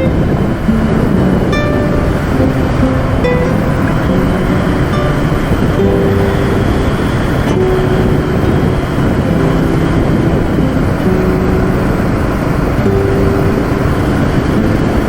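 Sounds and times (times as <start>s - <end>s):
faint melody of held notes: 0.0s - 15.0s
vehicle engine and travel noise: 0.0s - 15.0s.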